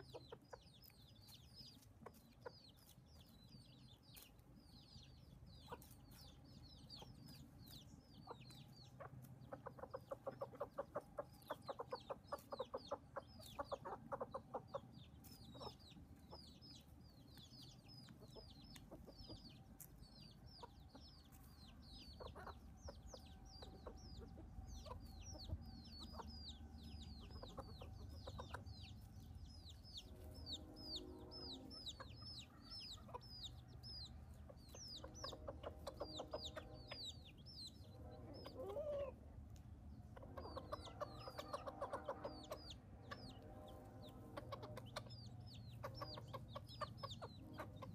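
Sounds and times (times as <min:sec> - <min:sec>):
chickens clucking: 0:00.0 - 0:47.9
chicks peeping: 0:00.0 - 0:47.9.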